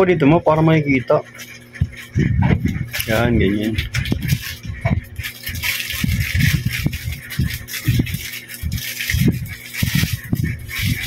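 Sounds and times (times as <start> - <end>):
plastic parts rattling and knocking: 1.9 - 11.0.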